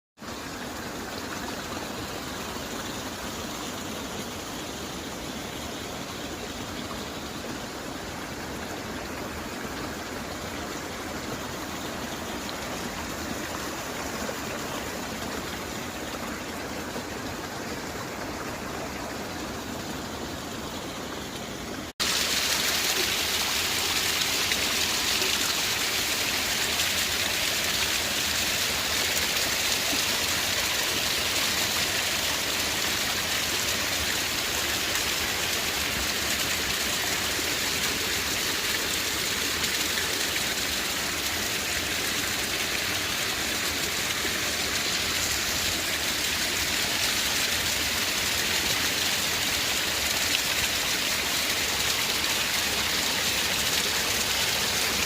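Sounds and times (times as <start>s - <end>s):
flowing water rushing: 0.2s - 55.0s.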